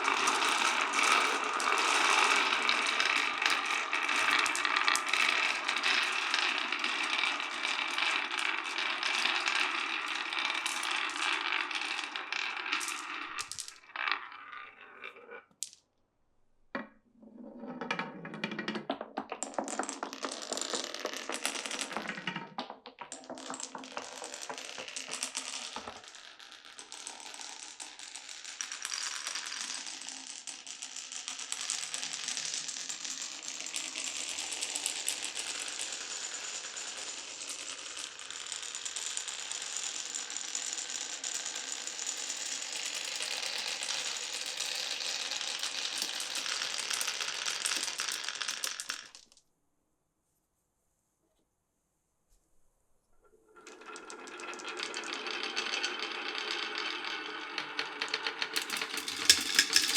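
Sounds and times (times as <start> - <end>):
marbles clattering down wooden run: 0.0 - 15.8, 17.7 - 49.4, 53.5 - 59.9.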